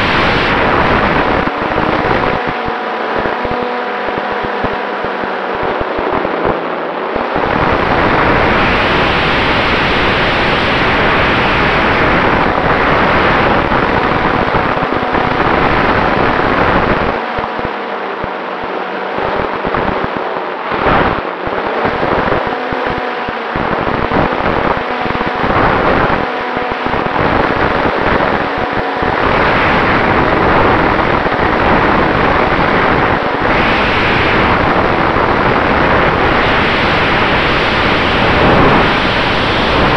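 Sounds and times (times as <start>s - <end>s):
wind buffeting microphone: 0.0s - 17.8s, 19.2s - 39.9s
electric motor and propeller whine: 0.0s - 39.9s.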